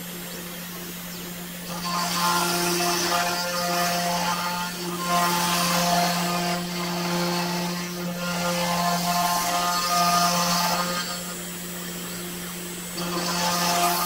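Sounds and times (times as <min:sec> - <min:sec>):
machine whining tones: 0:00.0 - 0:14.0
router spindle hum: 0:00.0 - 0:14.0.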